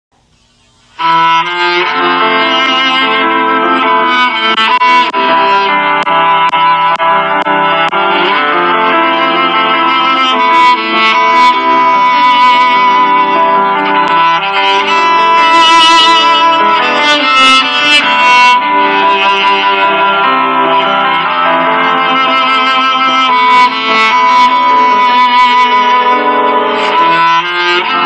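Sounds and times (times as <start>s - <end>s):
violin melody: 0.8s - 28.0s
plucked guitar: 1.0s - 28.0s.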